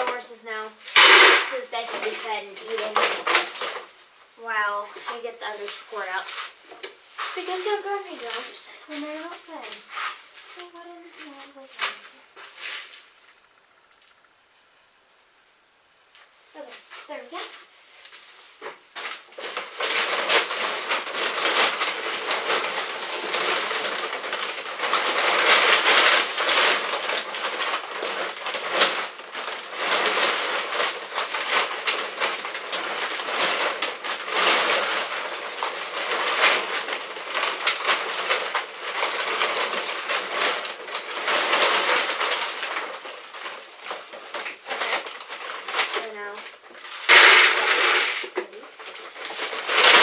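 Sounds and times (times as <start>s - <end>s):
feed sacks rustling: 0.0s - 14.2s, 16.5s - 50.0s.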